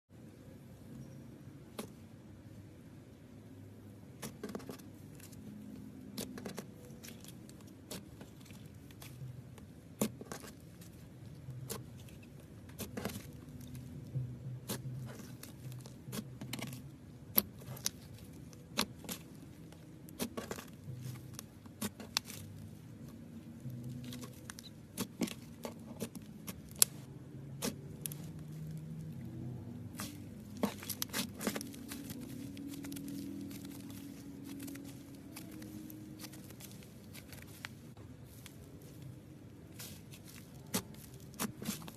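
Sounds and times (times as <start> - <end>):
slime squishing: 4.1 - 41.9.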